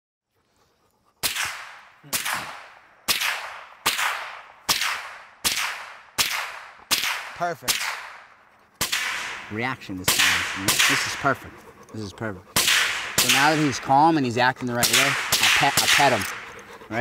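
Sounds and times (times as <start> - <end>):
rifle shots echoing: 1.2 - 11.4, 12.5 - 14.2, 14.8 - 16.6.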